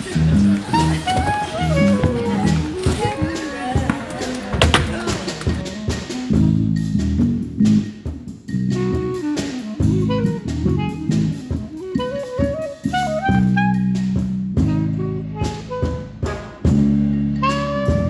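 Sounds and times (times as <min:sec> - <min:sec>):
jazz instrumental music: 0:00.0 - 0:18.0.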